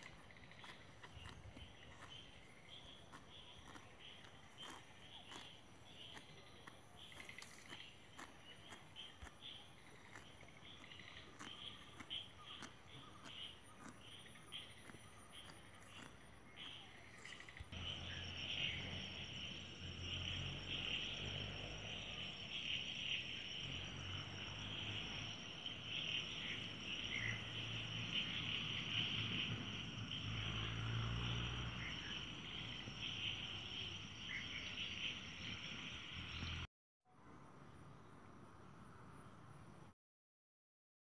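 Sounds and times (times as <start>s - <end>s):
insects trilling: 0.0s - 36.6s.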